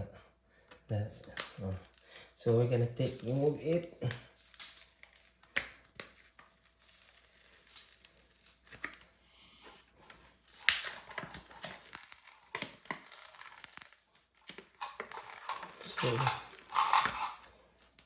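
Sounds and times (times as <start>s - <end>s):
plastic packaging crinkling: 1.2s - 18.0s.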